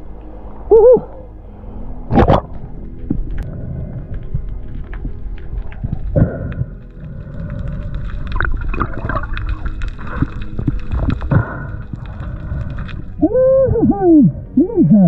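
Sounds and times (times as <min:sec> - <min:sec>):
low rumble: 0:00.0 - 0:15.0
water gurgling and bubbling: 0:02.0 - 0:14.6.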